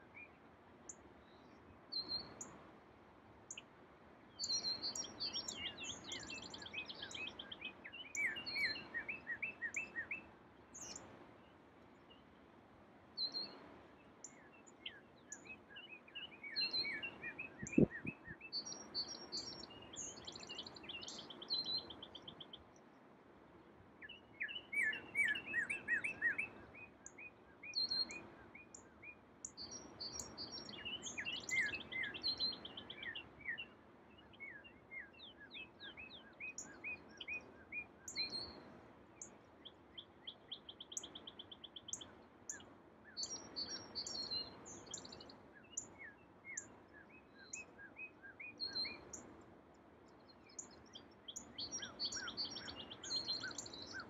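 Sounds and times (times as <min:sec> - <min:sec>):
faint steady background noise: 0:00.0 - 0:54.0
songbirds chirping and trilling: 0:00.0 - 0:54.0.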